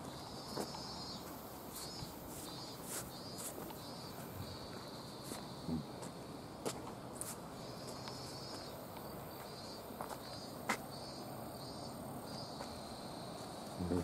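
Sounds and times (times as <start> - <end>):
insects chirring: 0.0 - 14.0
outdoor hiss: 0.0 - 14.0.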